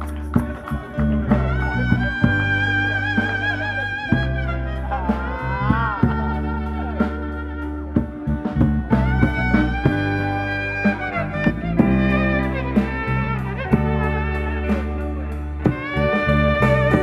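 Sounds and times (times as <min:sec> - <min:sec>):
guitar-led music with bass: 0:00.0 - 0:17.0.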